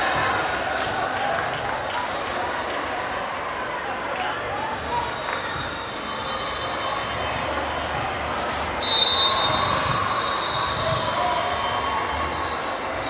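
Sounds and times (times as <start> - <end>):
voices echoing in gym: 0.0 - 13.0.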